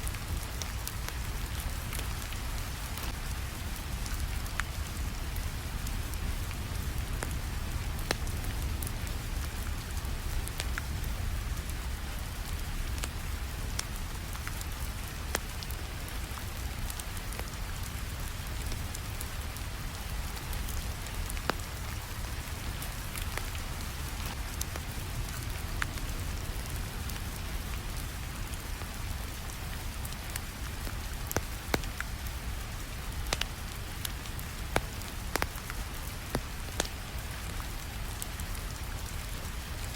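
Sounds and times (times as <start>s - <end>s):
steady rainfall: 0.0s - 39.9s
wood fire crackling: 0.1s - 39.9s.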